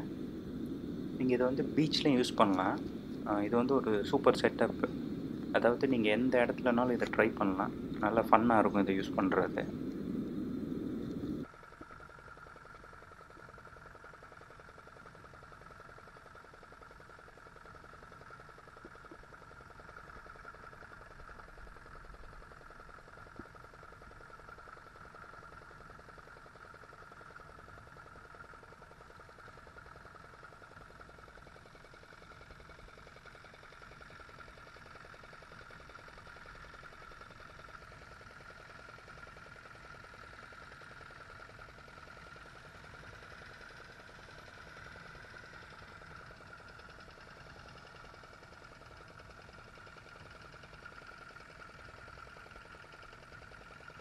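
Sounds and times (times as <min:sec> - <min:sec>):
faint engine hum: 0:00.0 - 0:54.0.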